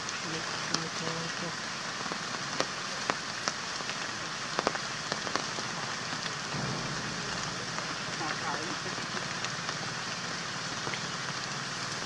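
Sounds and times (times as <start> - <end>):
raindrops clicking close by: 0.0 - 12.0
steady rain falling: 0.0 - 12.0.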